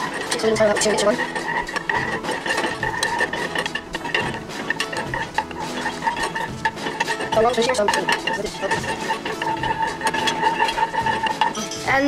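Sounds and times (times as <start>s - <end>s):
steady background tone: 0.0s - 12.0s
utensil scraping a pot: 0.0s - 12.0s.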